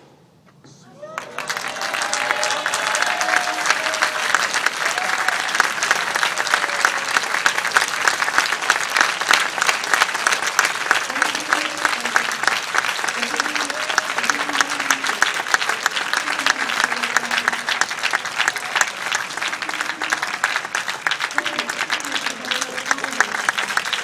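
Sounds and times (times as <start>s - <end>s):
crowd applause: 0.8s - 24.0s.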